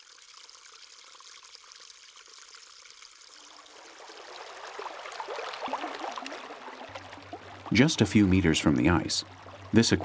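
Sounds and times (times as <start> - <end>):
water trickling over rocks: 0.0 - 10.0.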